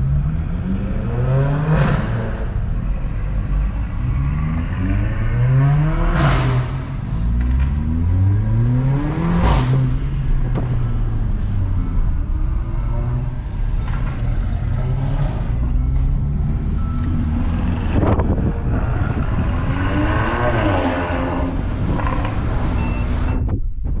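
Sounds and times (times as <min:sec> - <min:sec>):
car engines revving: 0:00.0 - 0:23.4.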